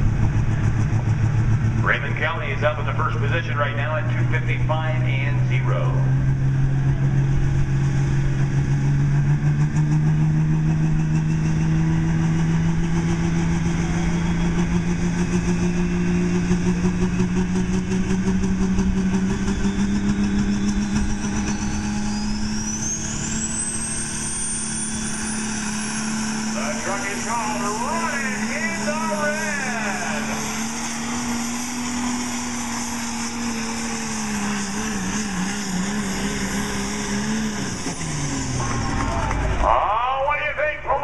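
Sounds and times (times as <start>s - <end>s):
diesel truck engine straining: 0.0s - 41.0s.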